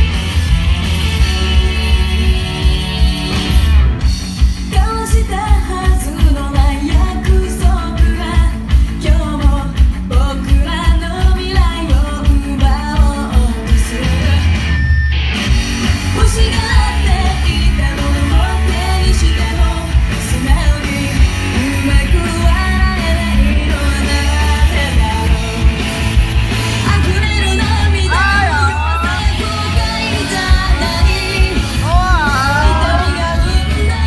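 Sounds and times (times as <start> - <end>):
live rock band with singer: 0.0 - 34.0.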